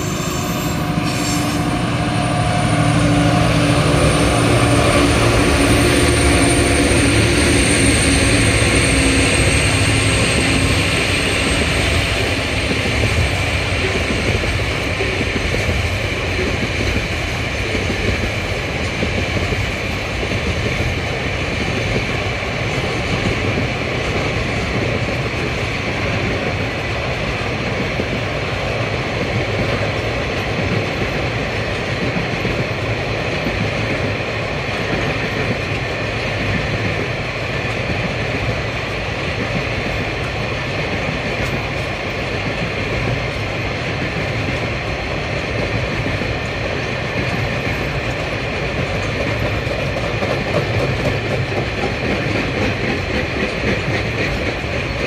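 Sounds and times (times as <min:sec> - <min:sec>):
train wheels rolling on track: 0:00.0 - 0:55.0.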